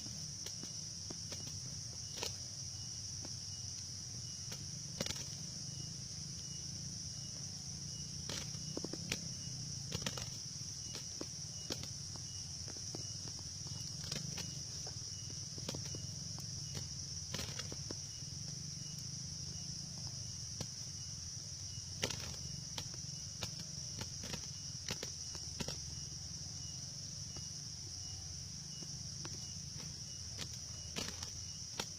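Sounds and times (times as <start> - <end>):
high-pitched insect drone: 0.0 - 31.9.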